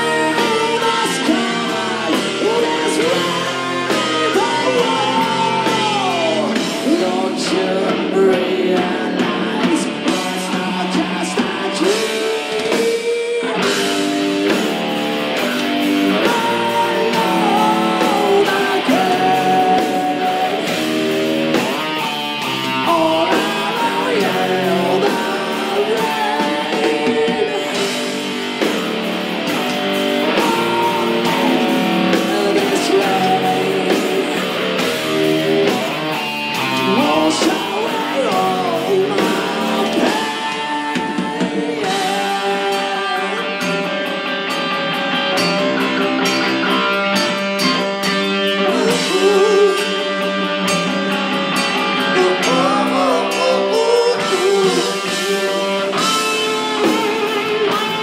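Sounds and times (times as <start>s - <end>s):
man singing: 0.0s - 14.8s, 15.4s - 28.7s, 29.5s - 44.1s, 48.3s - 51.0s, 51.6s - 58.0s
drums: 0.0s - 58.0s
electric guitars: 0.0s - 58.0s.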